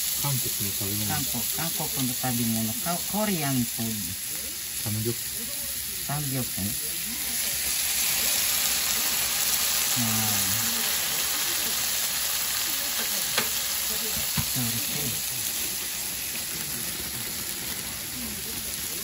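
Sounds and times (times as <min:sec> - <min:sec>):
meat sizzling in a skillet: 0:00.0 - 0:19.0.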